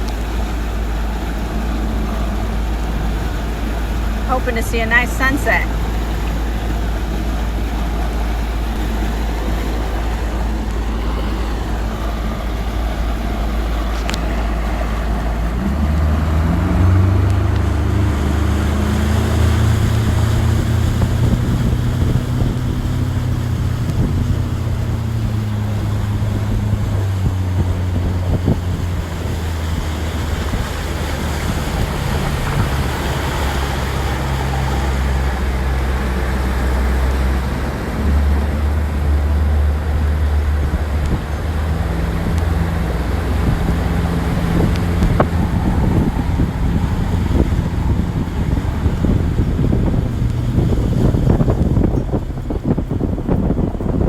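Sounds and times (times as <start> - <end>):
motorboat engine running: 0.0 - 54.0
wind on microphone: 0.0 - 54.0.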